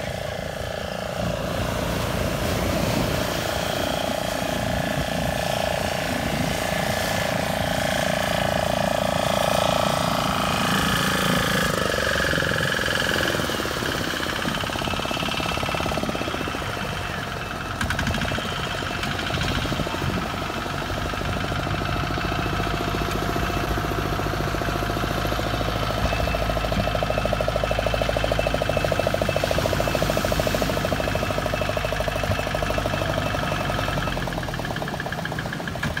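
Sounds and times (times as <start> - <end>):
tractor diesel engine chugging: 0.0 - 36.0.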